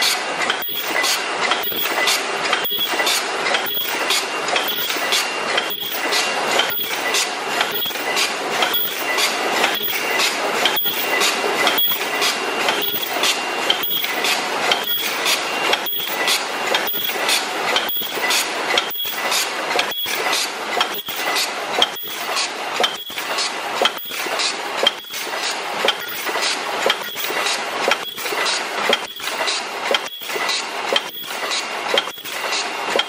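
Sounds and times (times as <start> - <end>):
high steady machine whine: 0.0 - 33.0
machine clattering: 0.0 - 33.0.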